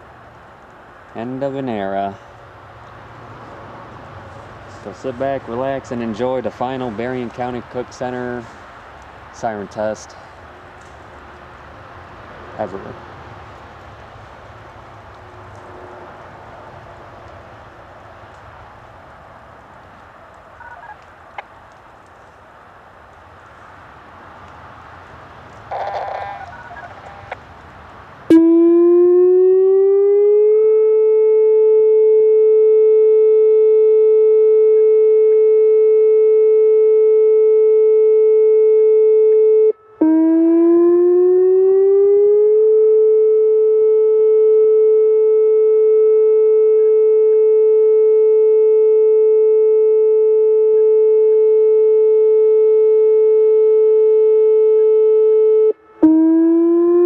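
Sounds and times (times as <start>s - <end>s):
civil defense siren rising: 0.0s - 57.0s.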